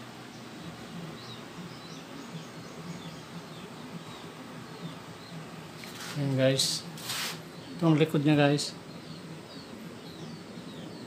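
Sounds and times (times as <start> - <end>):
birds chirping: 0.0 - 11.0
steady background noise: 0.0 - 11.0.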